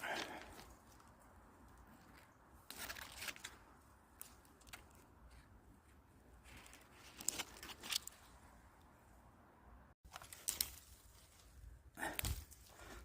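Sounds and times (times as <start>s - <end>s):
leaves and twigs rustling: 0.0s - 8.9s, 10.0s - 13.0s.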